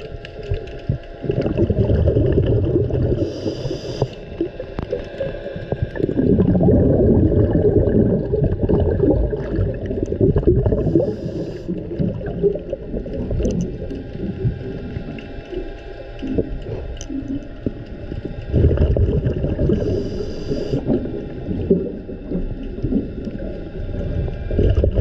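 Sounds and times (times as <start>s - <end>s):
small underwater clicks: 0.0s - 25.0s
underwater sloshing and gurgling: 0.0s - 25.0s.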